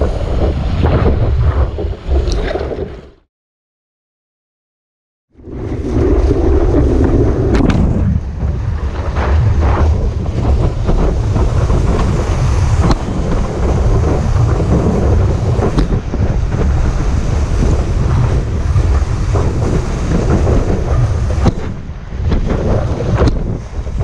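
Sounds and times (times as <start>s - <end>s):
wind buffeting microphone: 0.0s - 3.0s, 5.4s - 24.0s.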